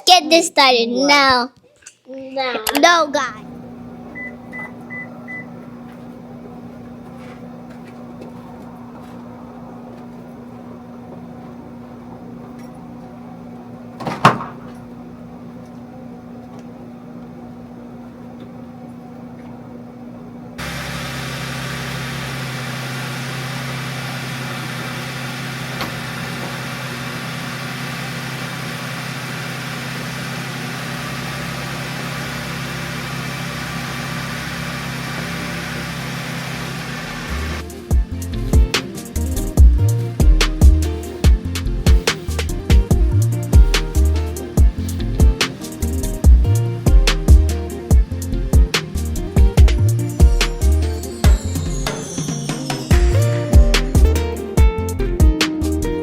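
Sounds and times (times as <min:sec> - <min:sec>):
steady machine hum: 0:02.8 - 0:55.4
deep running hum with hiss: 0:03.1 - 0:56.0.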